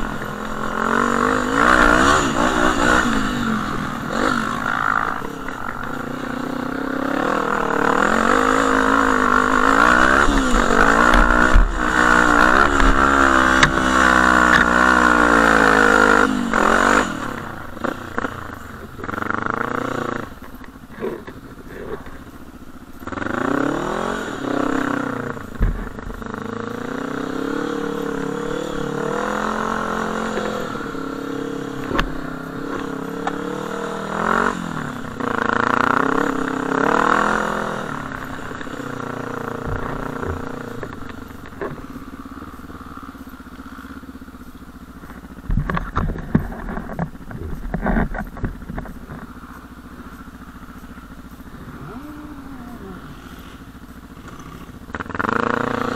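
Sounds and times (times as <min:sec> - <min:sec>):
quad engine revving: 0:00.0 - 0:55.9.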